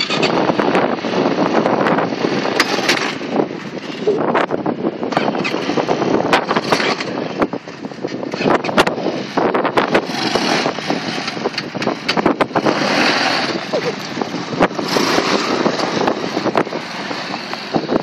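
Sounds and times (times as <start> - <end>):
quad bike engine running: 0.0 - 18.0
wind rumble on microphone: 0.0 - 18.0.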